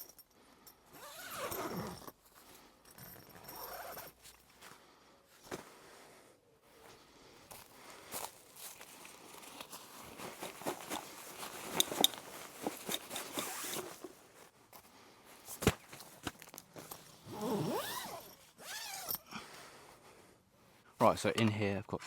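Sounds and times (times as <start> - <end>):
camping gear rustling: 0.0 - 21.5.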